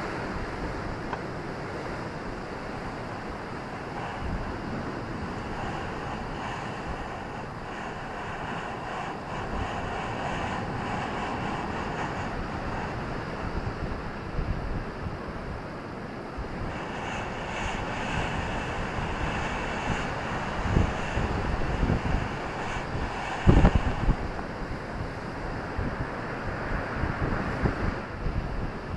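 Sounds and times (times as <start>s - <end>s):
low irregular rumble: 0.0s - 27.6s
ocean surf rushing: 0.0s - 28.9s.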